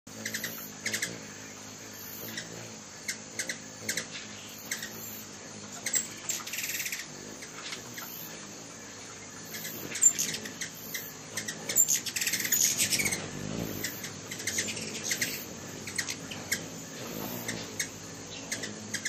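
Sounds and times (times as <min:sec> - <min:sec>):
buzzy chattering trill: 0:00.1 - 0:19.0
hummingbird chip calls: 0:00.1 - 0:19.0.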